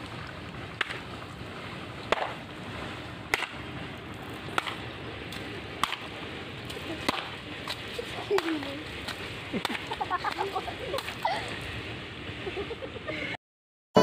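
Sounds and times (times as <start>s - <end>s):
rubber hose slapping water: 0.0s - 12.7s
water rushing through a canal: 0.0s - 13.4s.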